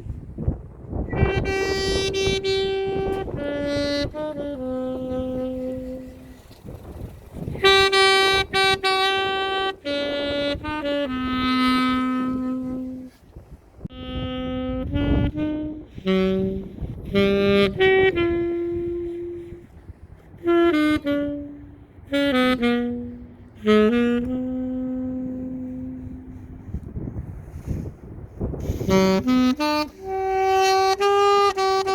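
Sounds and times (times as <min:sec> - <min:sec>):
alto saxophone melody: 0:00.0 - 0:31.9.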